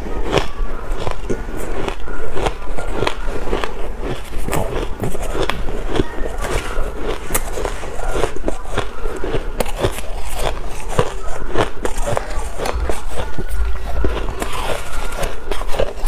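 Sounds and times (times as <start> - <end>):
chewing crunchy ice: 0.0 - 16.0.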